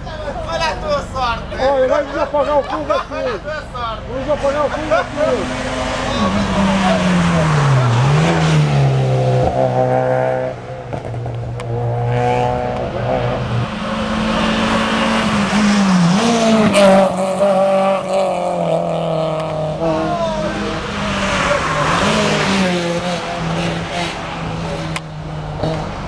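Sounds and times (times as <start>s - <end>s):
race car engine under load: 0.0s - 26.0s.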